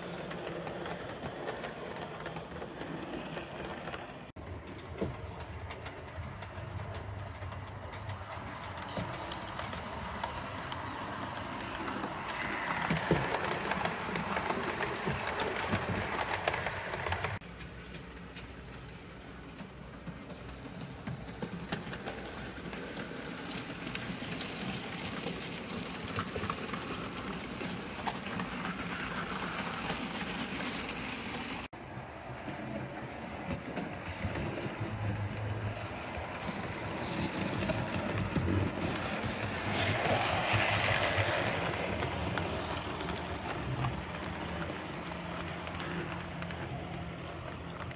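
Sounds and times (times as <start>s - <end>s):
model train whirring: 0.0s - 31.7s, 32.4s - 47.9s
wheels clicking over rail joints: 0.0s - 47.9s
wheels rolling on track: 0.0s - 47.9s.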